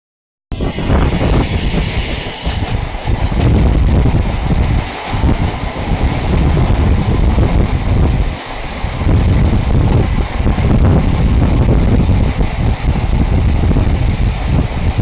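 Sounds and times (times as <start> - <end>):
freight train wheels rumbling: 0.5 - 15.0
wind buffeting microphone: 0.5 - 15.0.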